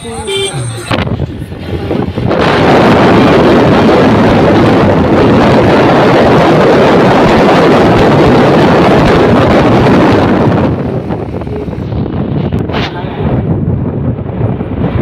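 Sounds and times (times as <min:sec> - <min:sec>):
wind buffeting microphone: 0:00.9 - 0:15.0.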